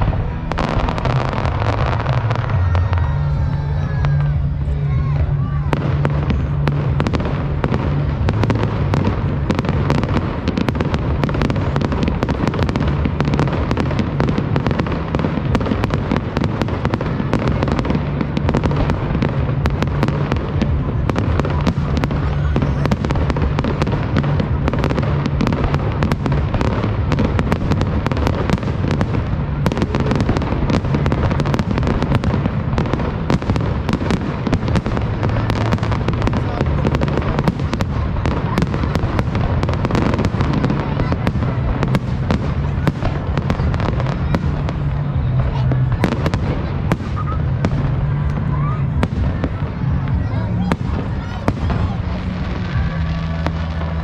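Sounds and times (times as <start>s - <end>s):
fireworks bangs and crackles: 0.0s - 54.0s
low rumble: 0.0s - 54.0s.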